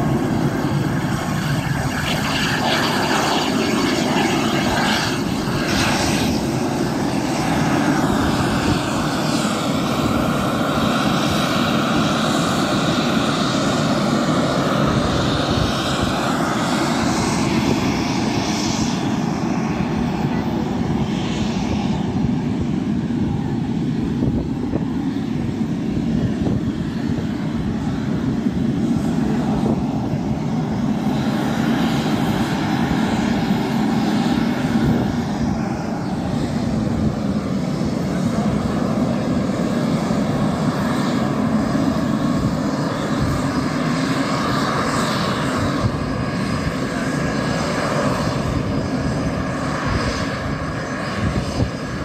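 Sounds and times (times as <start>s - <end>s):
jet engine rumbling with whine: 0.0s - 52.0s.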